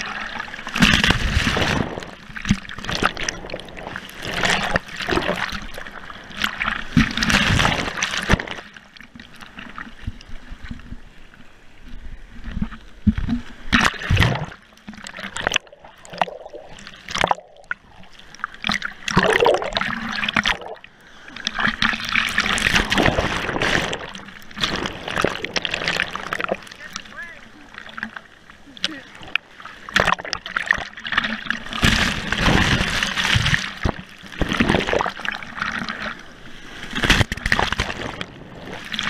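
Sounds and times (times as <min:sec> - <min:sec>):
surf water churning and splashing: 0:00.0 - 0:39.0
underwater bubbling and gurgling: 0:00.0 - 0:39.0.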